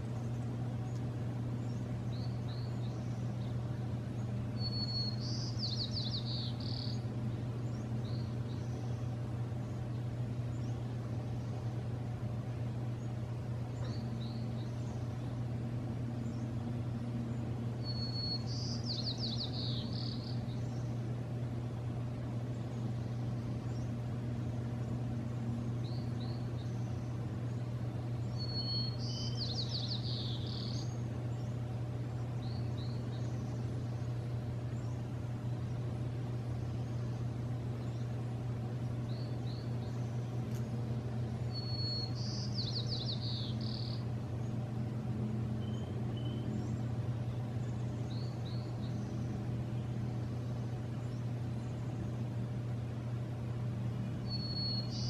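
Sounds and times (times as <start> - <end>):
soft bird chirps: 0.0 - 44.7, 45.6 - 52.3, 54.1 - 55.0
songbird singing: 0.0 - 55.0
steady low hum: 0.0 - 55.0.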